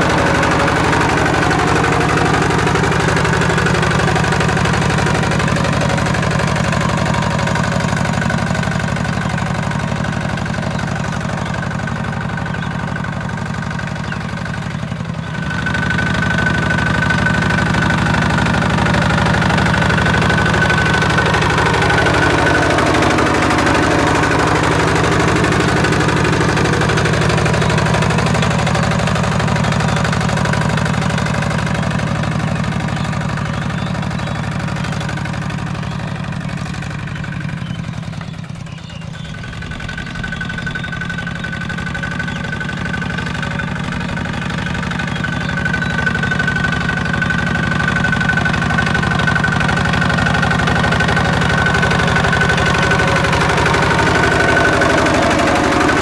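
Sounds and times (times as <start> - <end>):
walking tractor engine under load: 0.0 - 56.0.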